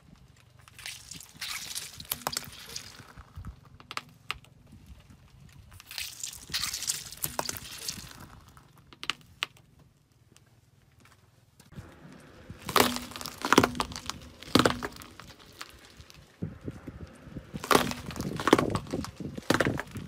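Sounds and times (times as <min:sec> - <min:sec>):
objects crunching under car tyre: 0:00.0 - 0:20.0.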